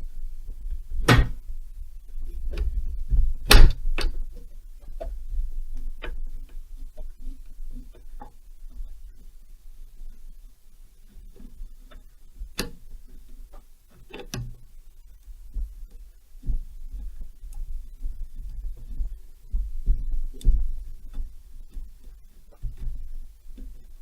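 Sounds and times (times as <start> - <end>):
light irregular clicks: 2.0 - 10.3, 11.0 - 24.0.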